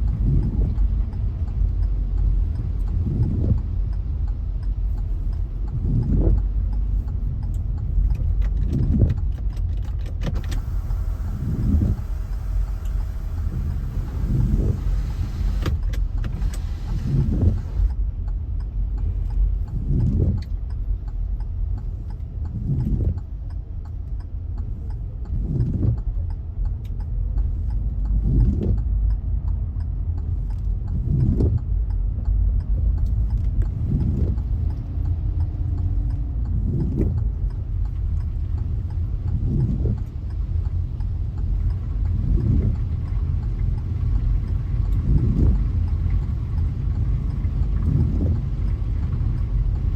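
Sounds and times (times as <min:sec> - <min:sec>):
car engine deep rumble: 0:00.0 - 0:49.9.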